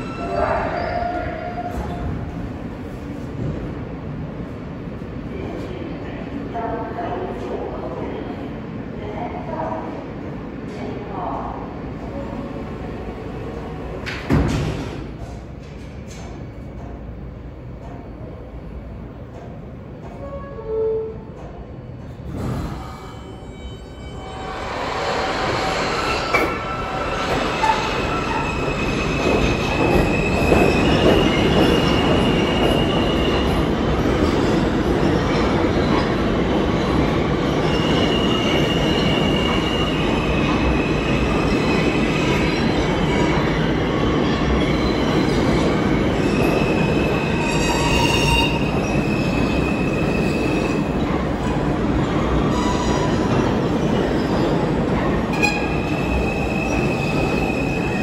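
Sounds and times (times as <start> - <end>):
rumble of train wheels on rail: 0.0 - 20.5, 24.3 - 58.0.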